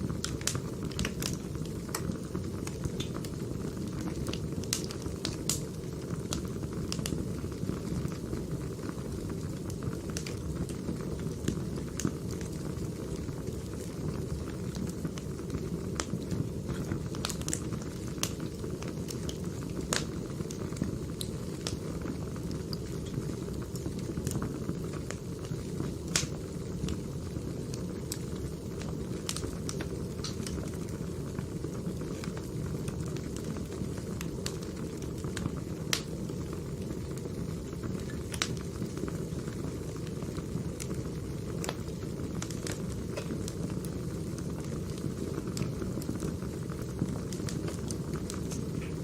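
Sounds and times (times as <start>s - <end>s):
logs crackling and popping: 0.0s - 49.0s.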